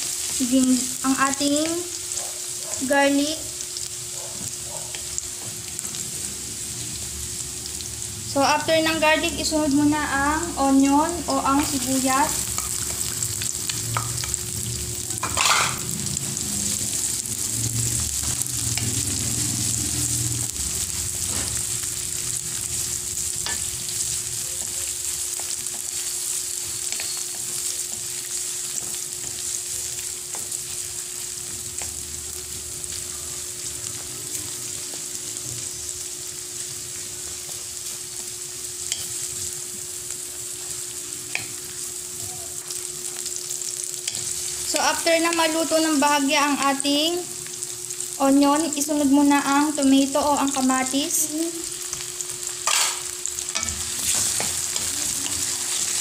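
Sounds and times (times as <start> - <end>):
onion sizzling in hot oil: 0.0 - 56.0.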